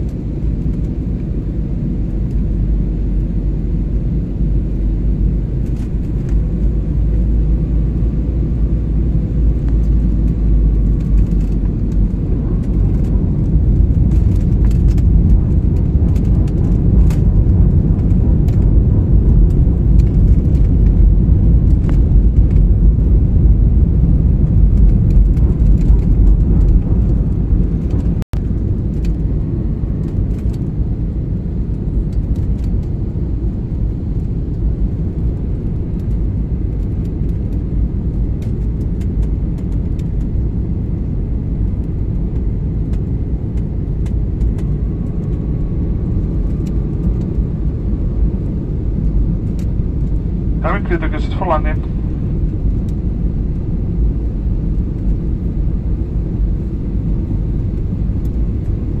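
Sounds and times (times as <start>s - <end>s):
airliner engine rumble: 0.0s - 59.0s.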